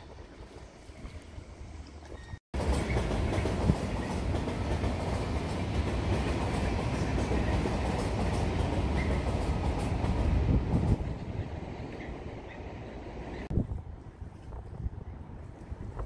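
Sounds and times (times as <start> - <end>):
train wheels rumbling on rails: 2.2 - 16.0.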